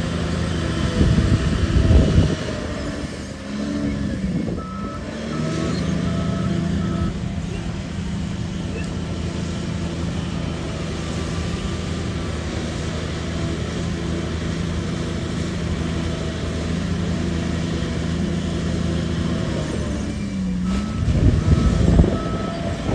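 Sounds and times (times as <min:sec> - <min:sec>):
bulldozer diesel engine running: 0:00.0 - 0:22.9.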